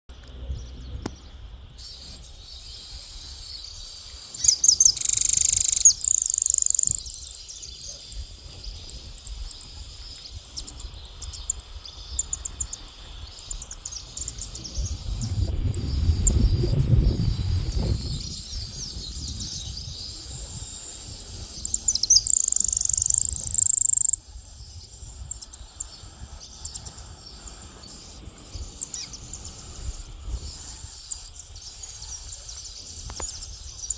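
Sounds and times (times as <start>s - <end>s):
songbird singing: 0.0s - 33.9s
high buzzing trills: 0.1s - 33.9s
high-pitched insect chorus: 0.1s - 33.9s.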